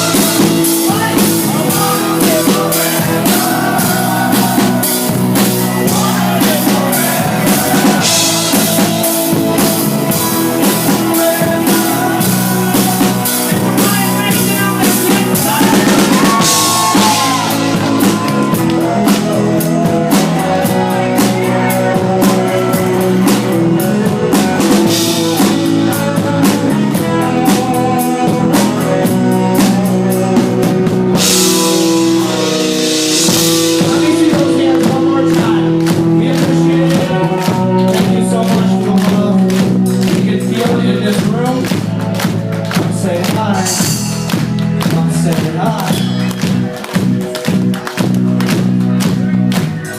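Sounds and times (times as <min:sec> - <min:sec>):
drum kit beating: 0:00.0 - 0:49.9
electric guitar: 0:00.0 - 0:49.9
rock band playing live: 0:00.0 - 0:49.9.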